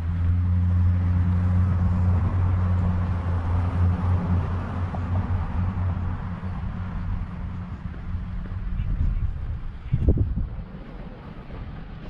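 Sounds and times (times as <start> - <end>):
low engine hum: 0.0 - 12.0
outdoor background noise: 0.0 - 12.0.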